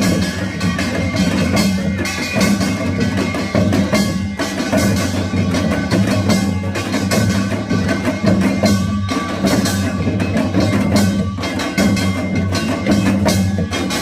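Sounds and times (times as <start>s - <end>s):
fast drum and gong strokes: 0.0s - 14.0s.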